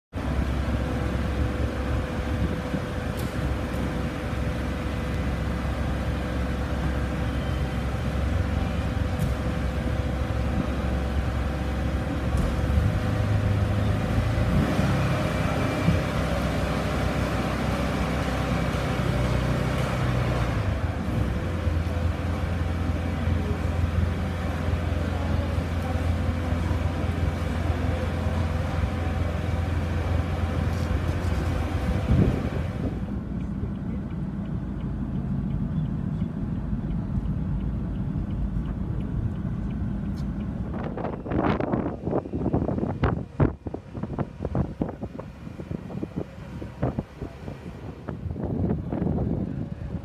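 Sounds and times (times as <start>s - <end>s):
boat engine droning: 0.1s - 50.0s.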